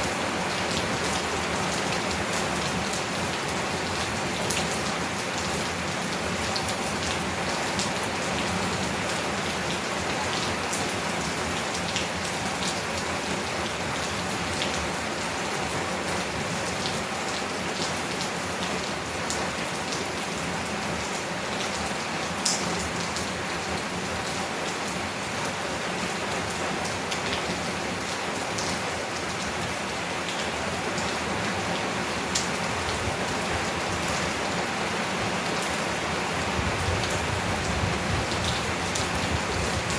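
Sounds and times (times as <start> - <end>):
heavy rain on tin roof: 0.0 - 39.9.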